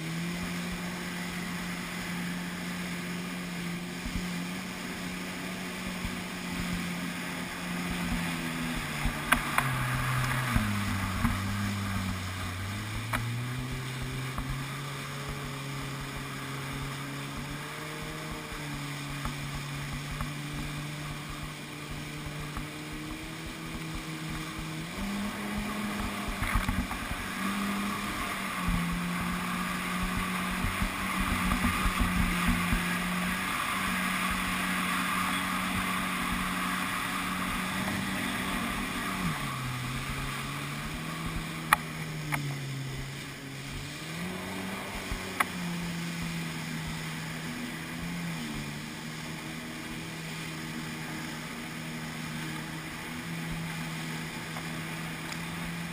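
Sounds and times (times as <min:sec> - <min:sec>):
jet ski engine running: 0:00.0 - 0:55.9.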